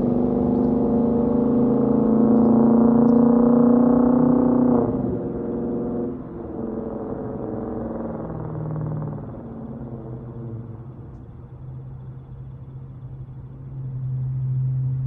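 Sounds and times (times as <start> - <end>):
car engine exhaust under throttle: 0.0 - 15.0.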